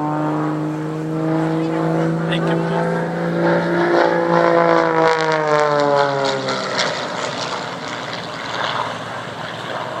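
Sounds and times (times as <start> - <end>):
propeller aircraft flying past: 0.0 - 10.0.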